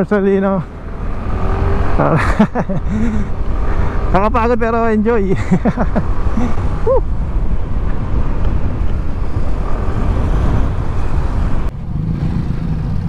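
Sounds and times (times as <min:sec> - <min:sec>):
road noise: 0:00.0 - 0:13.0
scooter engine hum: 0:00.4 - 0:13.0
wind rushing over microphone: 0:00.7 - 0:13.0.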